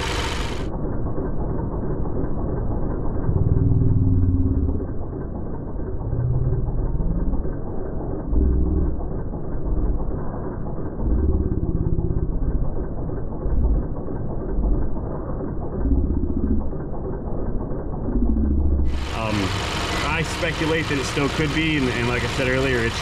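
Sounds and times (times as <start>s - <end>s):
muffled car engine idling: 0.0s - 23.0s.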